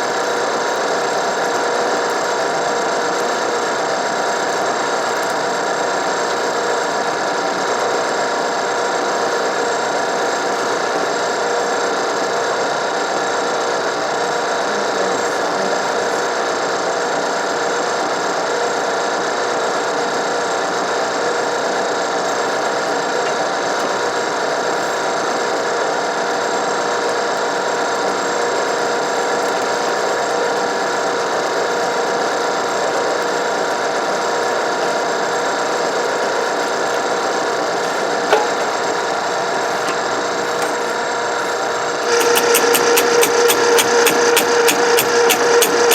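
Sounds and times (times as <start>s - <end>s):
drain machine motor running: 0.0s - 17.5s, 19.8s - 45.9s.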